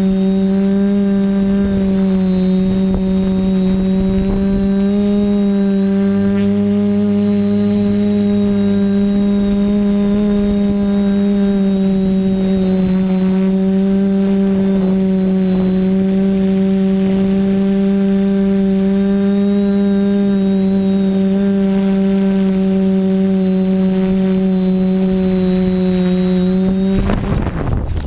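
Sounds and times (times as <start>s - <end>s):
drone motors buzzing hum: 0.0s - 28.0s
faint high whine: 0.0s - 28.0s.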